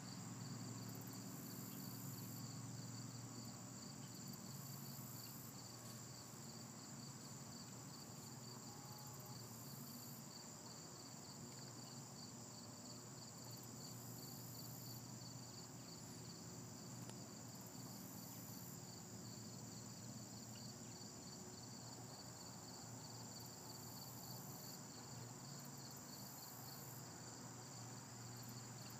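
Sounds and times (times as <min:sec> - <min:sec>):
high insect trill: 0:00.1 - 0:28.9
insect chirp pulsing: 0:00.1 - 0:28.9.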